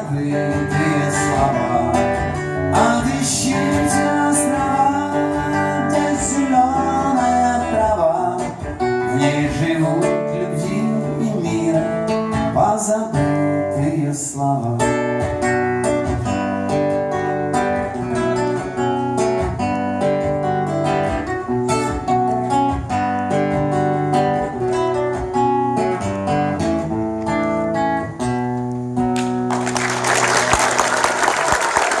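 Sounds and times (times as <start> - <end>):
acoustic guitar picked and strummed: 0.0 - 29.7.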